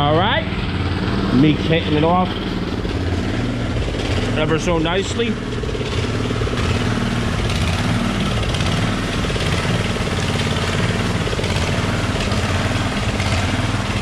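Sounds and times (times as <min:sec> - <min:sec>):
small engine running steadily: 0:00.0 - 0:14.0.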